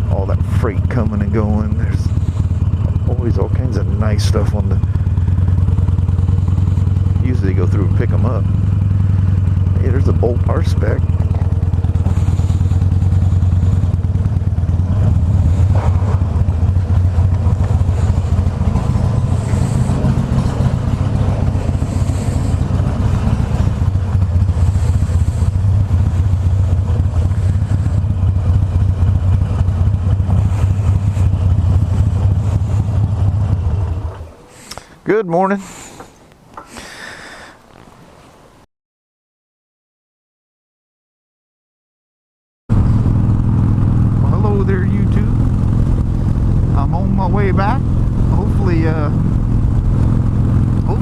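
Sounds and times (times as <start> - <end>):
motorcycle engine running: 0.0 - 34.7, 42.7 - 51.0.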